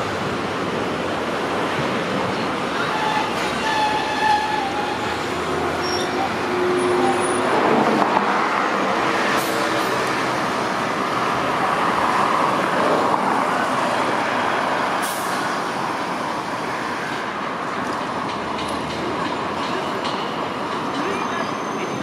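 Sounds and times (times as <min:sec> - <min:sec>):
street traffic: 0:00.0 - 0:22.0
tram rumbling past: 0:00.0 - 0:22.0.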